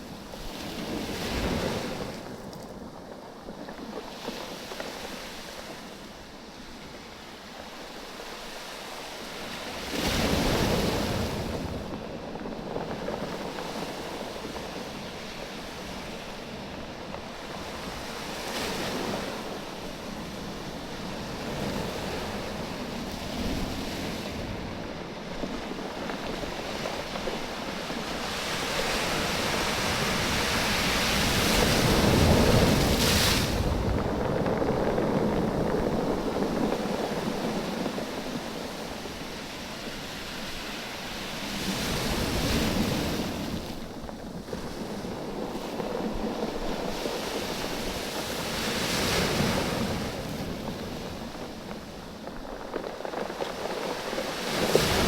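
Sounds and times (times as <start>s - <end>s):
waves surging on a beach: 0.0s - 55.0s.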